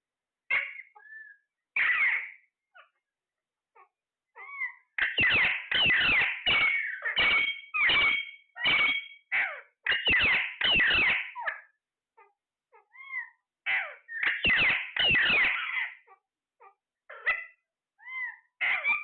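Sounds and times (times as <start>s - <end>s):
parrot screeching: 0.5s - 2.9s, 3.8s - 19.0s.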